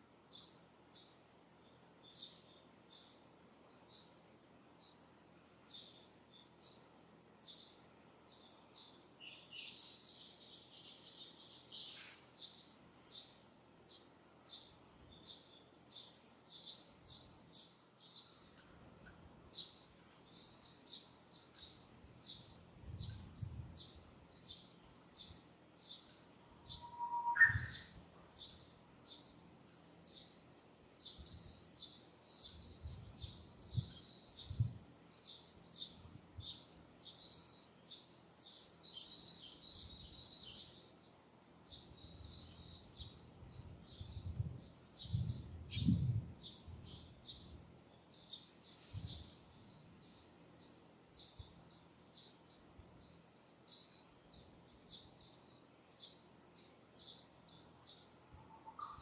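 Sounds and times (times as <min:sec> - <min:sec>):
distant songbird chirping: 0:05.7 - 0:59.0.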